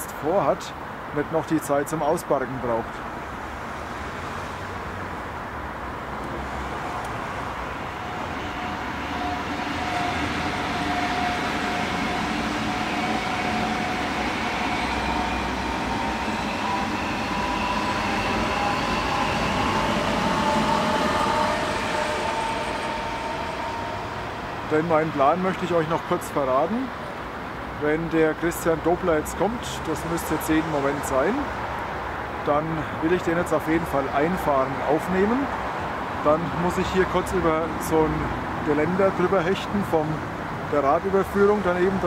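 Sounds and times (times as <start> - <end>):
high-speed train passing: 0.0 - 42.0.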